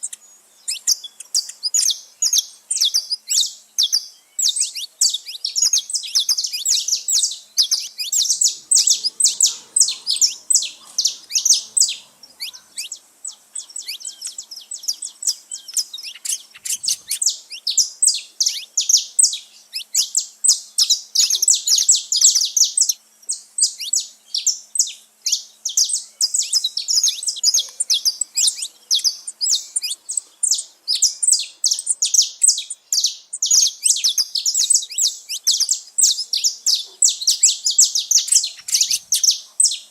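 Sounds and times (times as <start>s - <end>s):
finches singing and chirping: 0.0s - 39.9s.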